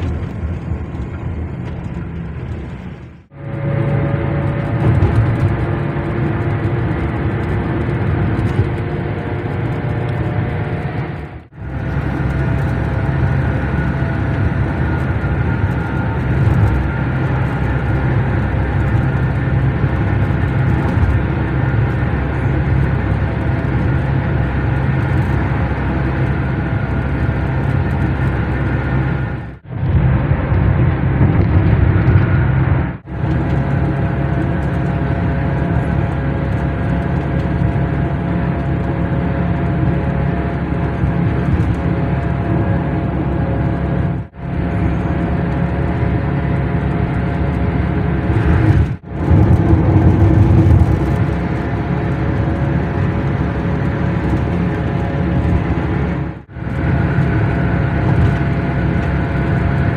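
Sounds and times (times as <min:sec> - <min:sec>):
car cabin road and engine noise: 0:00.0 - 0:59.9.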